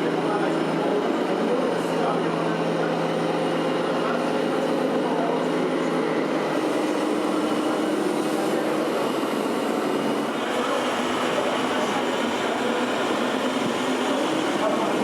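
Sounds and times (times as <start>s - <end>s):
rc trucks engine-like drone: 0.2s - 15.0s.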